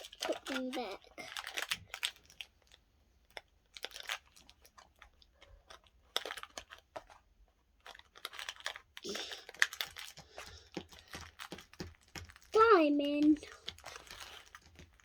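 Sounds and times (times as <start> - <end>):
small erasers clicking and rustling: 0.0 - 15.0.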